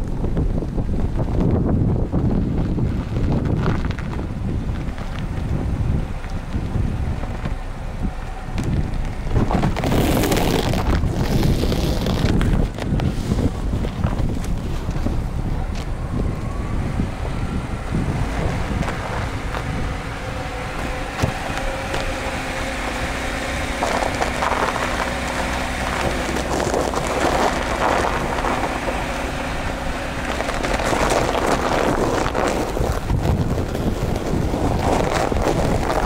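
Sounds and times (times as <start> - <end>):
car engine hum: 0.0 - 36.0
studded tyres crunching over ice: 0.0 - 36.0
wind noise: 0.0 - 36.0.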